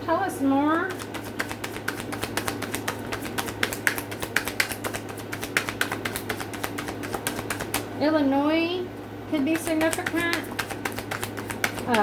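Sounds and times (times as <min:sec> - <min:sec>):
cards shuffled by hand: 0:00.7 - 0:07.9, 0:09.4 - 0:12.0.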